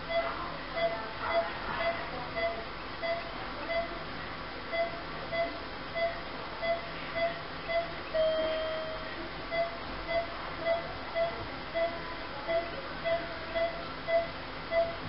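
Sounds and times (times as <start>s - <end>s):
long monitor tone: 0.0s - 4.0s, 4.7s - 15.0s
patient monitor beeping: 0.0s - 4.0s, 4.7s - 15.0s.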